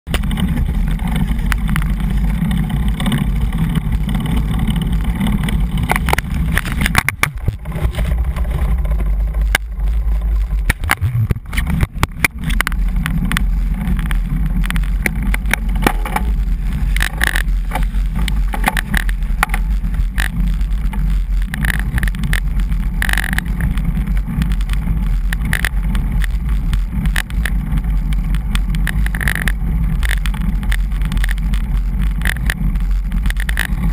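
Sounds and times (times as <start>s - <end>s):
tyre and road noise: 0.0s - 33.9s
clicks and rattles: 0.1s - 33.9s
wind buffeting microphone: 0.1s - 33.9s.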